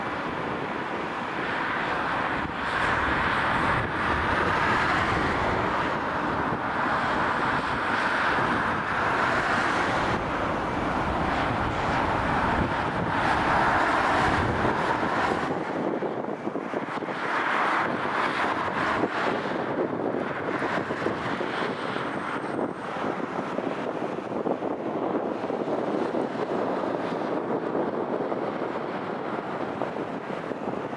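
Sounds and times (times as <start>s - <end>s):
jet engines rushing: 0.0s - 30.9s
wind buffeting microphone: 0.0s - 30.9s.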